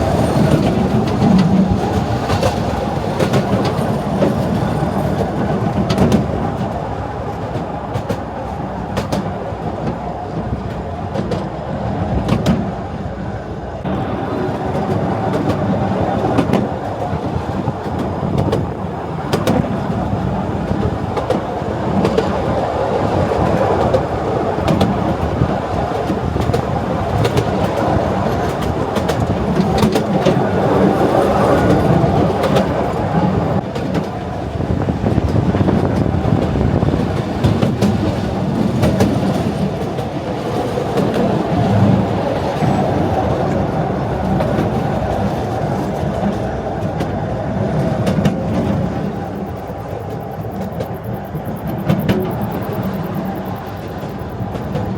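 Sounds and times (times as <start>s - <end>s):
carriages clicking and rattling: 0.0s - 54.9s
train wheels rumbling on rails: 0.0s - 54.9s.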